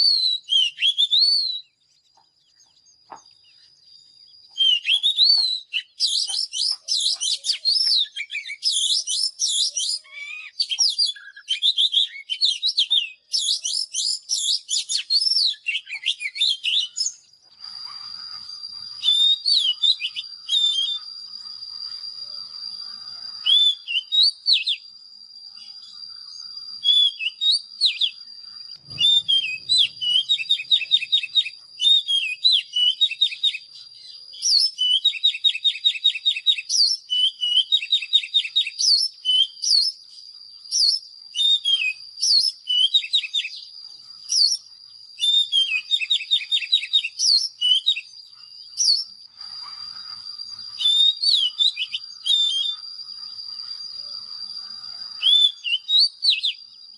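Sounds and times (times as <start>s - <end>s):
bird singing whistled phrases: 0.0s - 1.9s, 2.5s - 56.8s.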